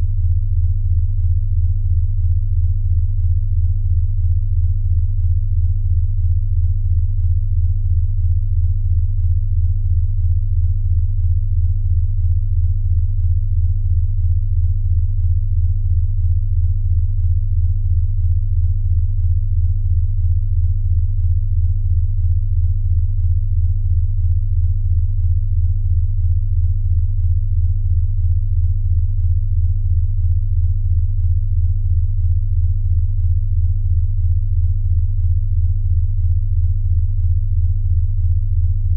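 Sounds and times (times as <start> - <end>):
pulsing low hum tone: 0.0 - 38.9.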